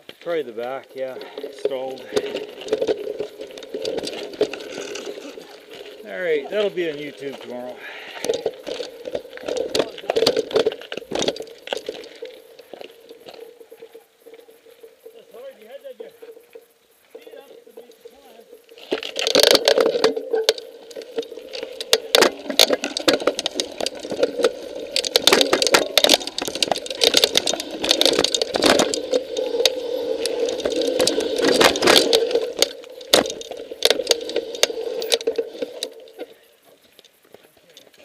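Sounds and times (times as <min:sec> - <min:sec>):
bike rattling and clicking: 0:00.0 - 0:38.0.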